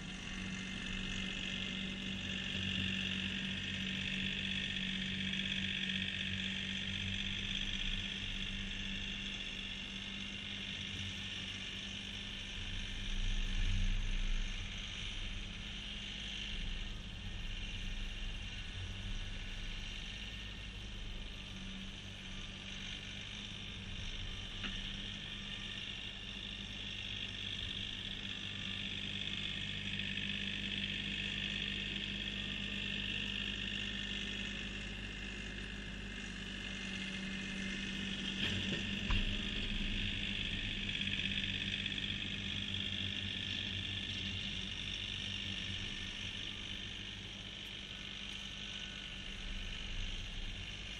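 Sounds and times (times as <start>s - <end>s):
distant diesel tractor engine: 0.0s - 50.9s.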